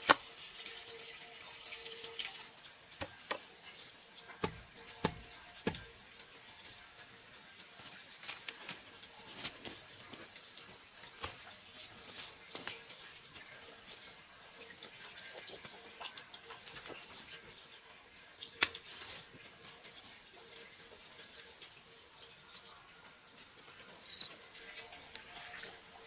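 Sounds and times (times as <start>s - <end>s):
insects trilling: 0.0s - 26.0s
faint chirps: 2.4s - 26.0s.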